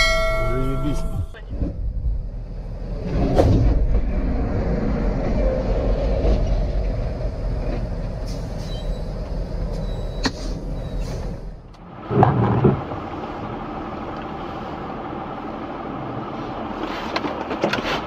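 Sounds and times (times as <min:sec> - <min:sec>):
car running heard from inside: 0:00.0 - 0:18.0
heavy truck rumbling: 0:00.0 - 0:18.0.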